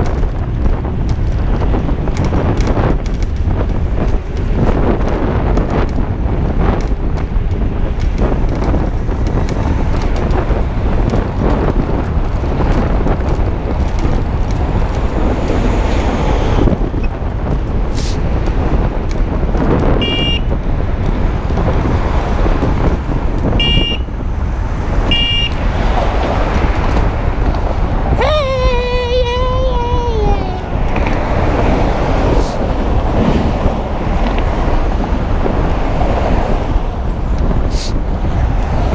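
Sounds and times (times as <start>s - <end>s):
traffic noise: 0.0s - 38.9s
wind rushing over microphone: 0.0s - 38.9s.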